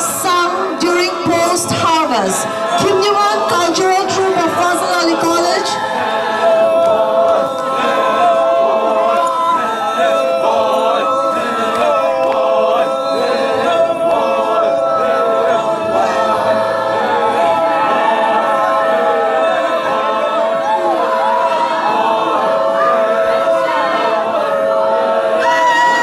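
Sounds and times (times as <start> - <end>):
group singing in unison: 0.0 - 26.0.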